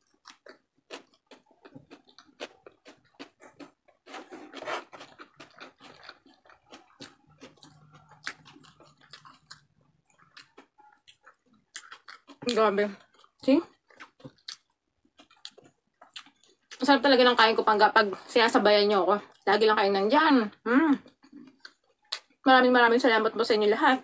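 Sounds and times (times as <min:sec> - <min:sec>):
wet chewing: 0:00.0 - 0:18.4, 0:20.9 - 0:22.4.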